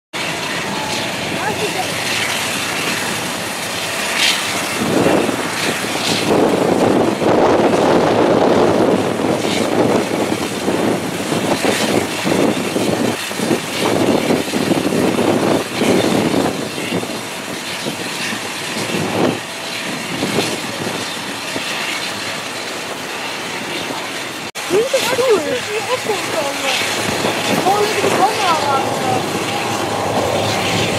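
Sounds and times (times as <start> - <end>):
rushing jet noise: 0.1 - 30.9.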